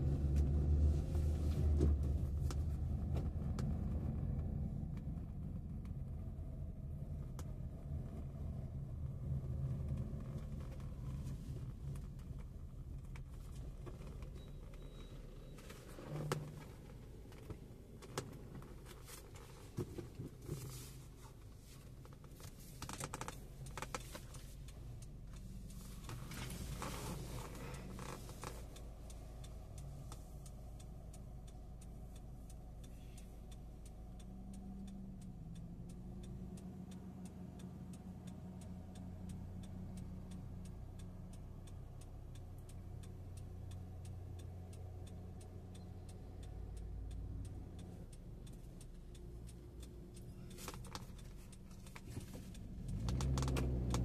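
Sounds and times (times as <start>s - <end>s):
car engine and road hum: 0.0s - 54.0s.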